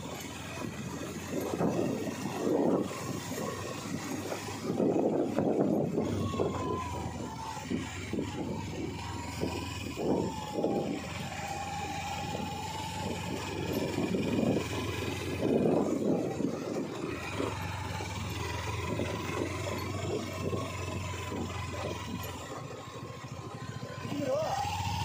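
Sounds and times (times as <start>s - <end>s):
motorcycle engine at low speed: 0.0s - 25.0s.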